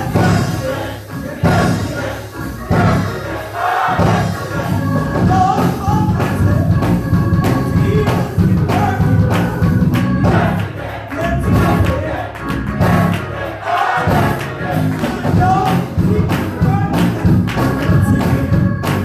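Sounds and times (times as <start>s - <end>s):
choir singing: 0.0s - 6.7s, 7.3s - 18.8s
band with drums and bass: 0.0s - 10.7s, 11.4s - 13.3s, 14.0s - 19.0s.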